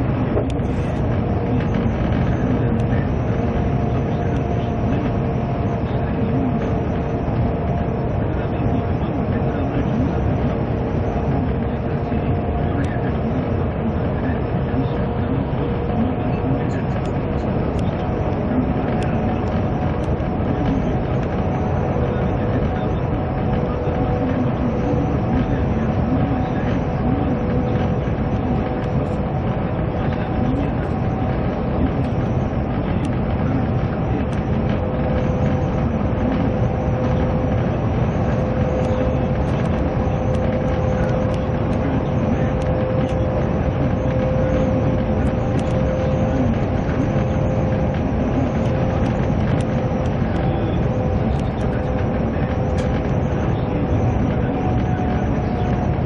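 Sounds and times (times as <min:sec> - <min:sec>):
moving vehicle rumble: 0:00.0 - 0:56.0.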